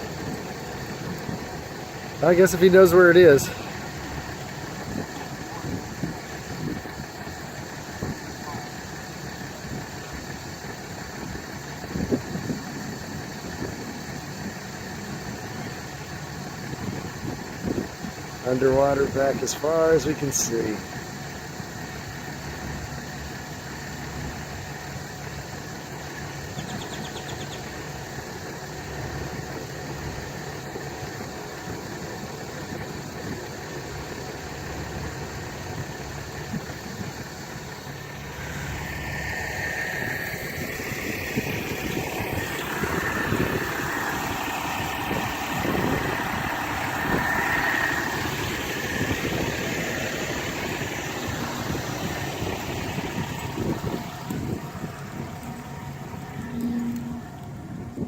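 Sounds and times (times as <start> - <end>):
engine running at low revs: 0.0 - 58.0
loud engine with high whine: 0.0 - 58.0.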